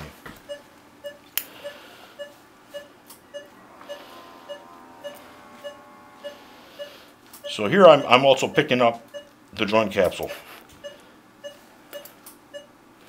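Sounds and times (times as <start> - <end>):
monitor beeping: 0.5 - 9.4, 10.1 - 12.7.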